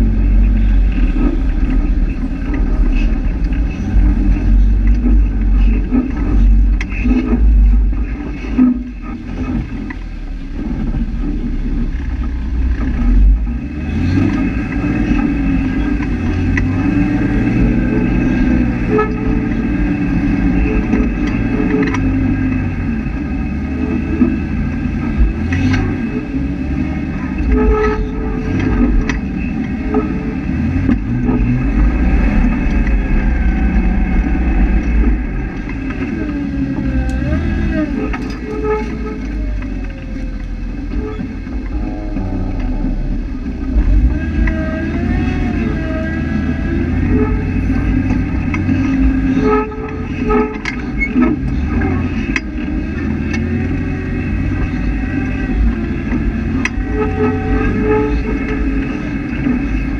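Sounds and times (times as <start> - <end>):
engine running at low revs: 0.0 - 59.9.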